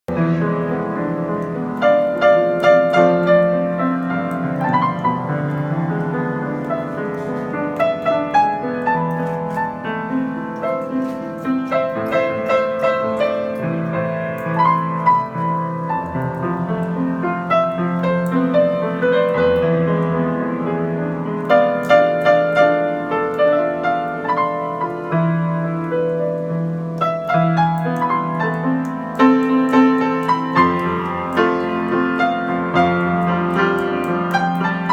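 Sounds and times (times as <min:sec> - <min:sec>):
grand piano ballad: 0:00.1 - 0:34.9.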